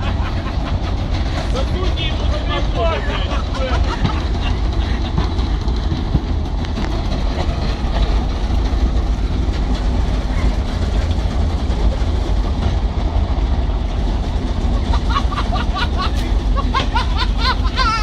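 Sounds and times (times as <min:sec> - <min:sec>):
garbage truck engine running: 0:00.0 - 0:18.0.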